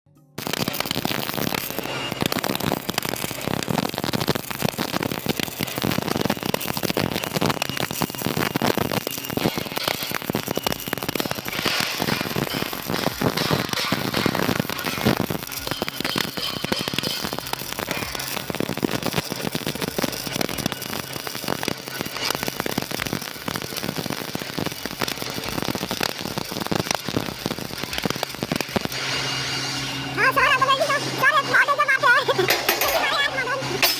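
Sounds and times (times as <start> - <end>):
welding arc crackling and spattering: 0.4 - 33.9.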